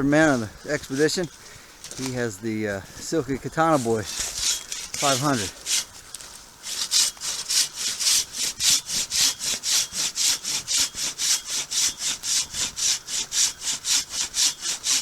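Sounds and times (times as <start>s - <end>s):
hand saw cutting log: 0.0s - 2.2s, 3.4s - 15.0s.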